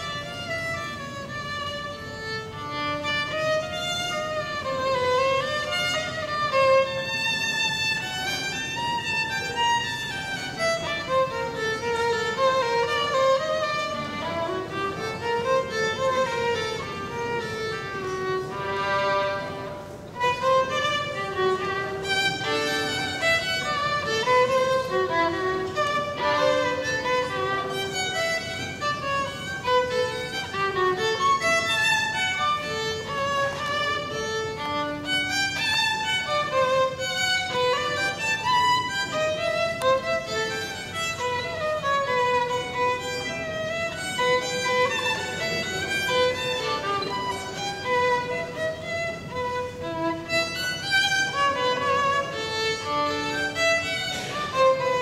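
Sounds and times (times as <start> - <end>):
violin playing quick melody: 0.0 - 55.0.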